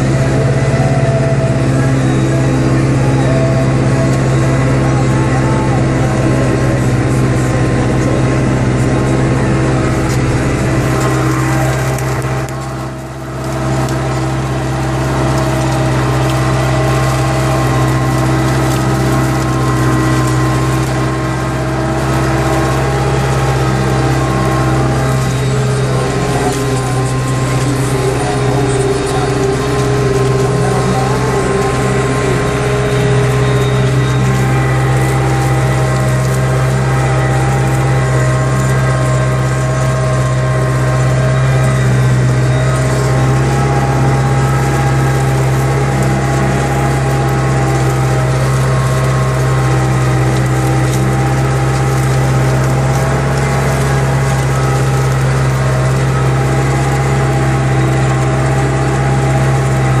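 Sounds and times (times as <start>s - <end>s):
tractor engine droning under load: 0.0s - 60.0s.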